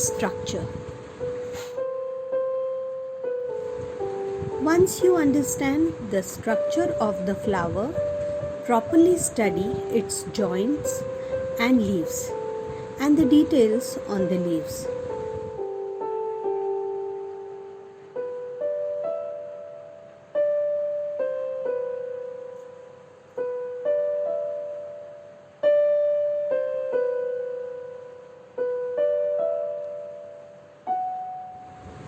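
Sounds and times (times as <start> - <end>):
slow gentle piano melody: 0.0 - 32.0.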